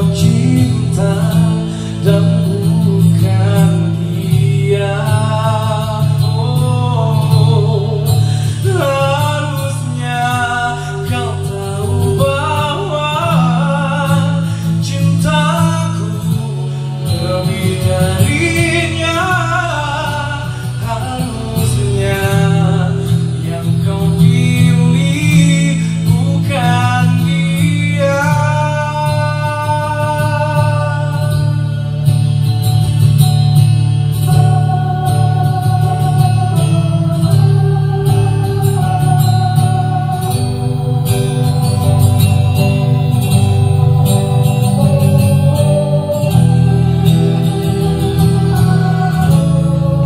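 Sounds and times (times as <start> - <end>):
man singing into a microphone: 0.0 - 33.1, 34.1 - 50.0
guitar: 0.0 - 50.0
steady bass line: 0.0 - 50.0.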